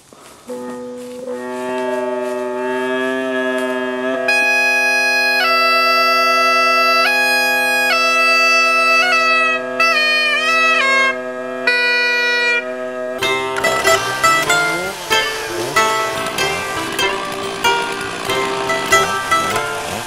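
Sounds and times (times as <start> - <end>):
bagpipe drones: 0.0 - 20.0
bagpipe chanter melody: 0.2 - 20.0.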